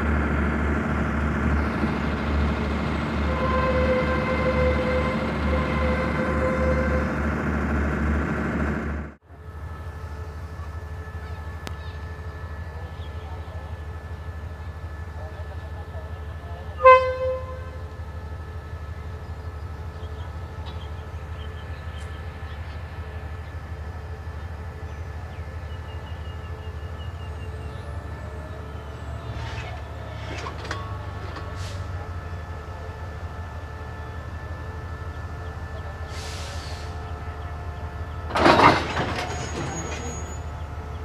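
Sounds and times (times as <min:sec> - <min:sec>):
diesel engine idling: 0:00.0 - 0:30.2, 0:30.8 - 0:39.1.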